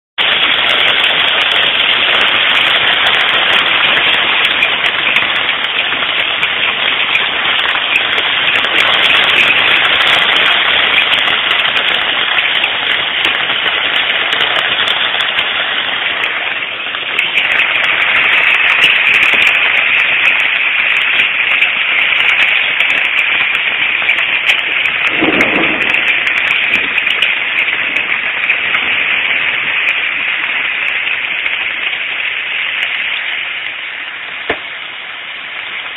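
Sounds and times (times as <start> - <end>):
heavy hail striking a camper: 0.2 - 33.6, 34.2 - 35.0.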